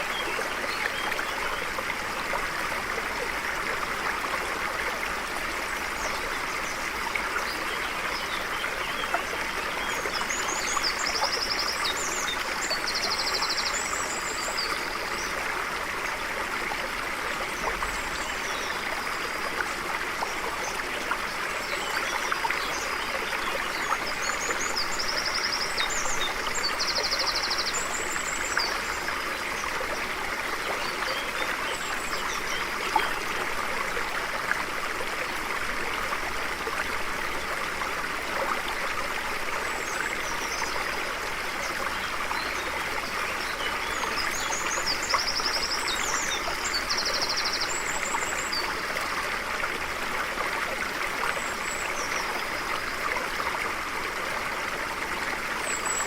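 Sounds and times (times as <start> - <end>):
water flowing over rocks: 0.0 - 56.0.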